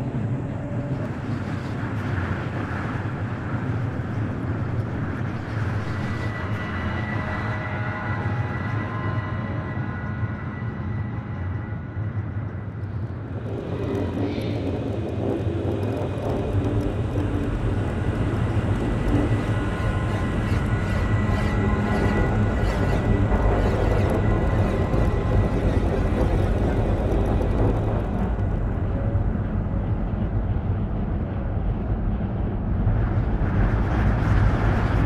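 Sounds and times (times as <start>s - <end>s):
electronic drone with low hum: 0.0s - 35.0s.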